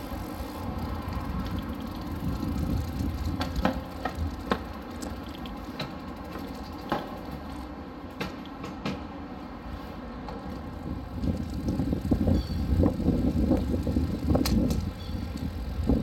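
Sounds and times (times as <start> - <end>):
bicycle rolling over concrete: 0.0 - 8.6, 10.3 - 16.0.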